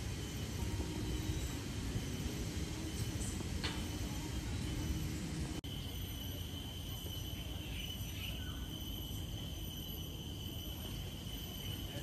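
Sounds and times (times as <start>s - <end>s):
faint chirps: 0.0s - 12.0s
high-pitched insect drone: 0.0s - 12.0s.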